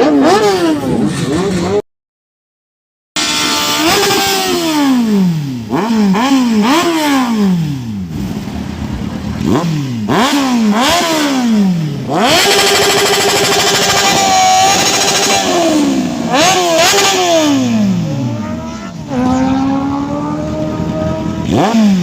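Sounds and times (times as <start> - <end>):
motorcycle engine revving: 0.0 - 1.8, 3.2 - 22.0.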